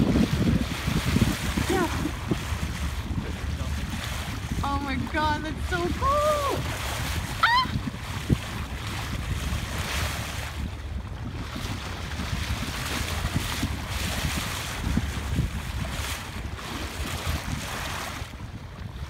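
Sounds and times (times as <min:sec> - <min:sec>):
water slapping against boat hull: 0:00.0 - 0:19.0
wind buffeting the microphone: 0:00.0 - 0:19.0.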